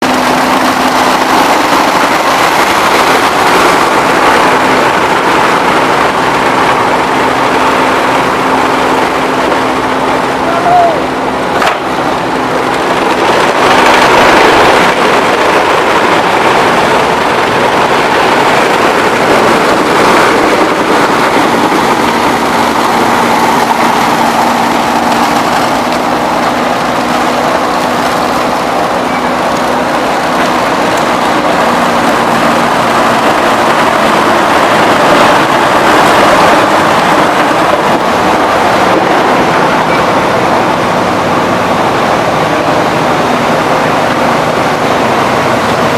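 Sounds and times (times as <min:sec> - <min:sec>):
crushing mill machinery running: 0:00.0 - 0:45.9.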